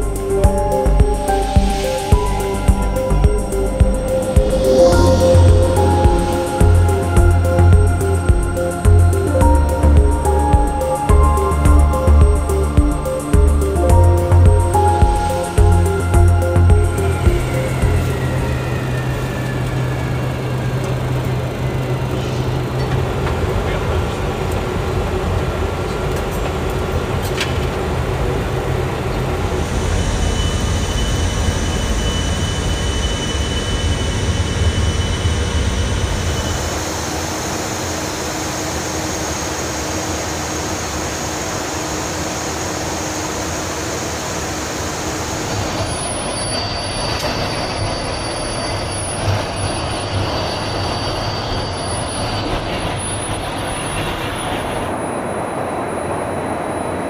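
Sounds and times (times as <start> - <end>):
aircraft engine and airflow noise: 0.0 - 57.0.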